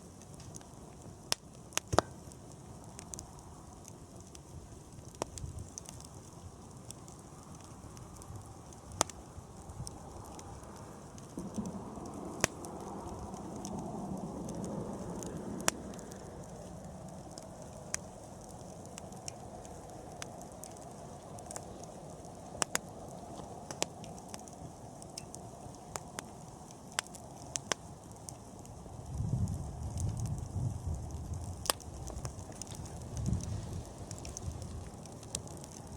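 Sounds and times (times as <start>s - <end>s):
fire crackling and popping: 0.0s - 35.9s
low rush of flames: 0.0s - 35.9s.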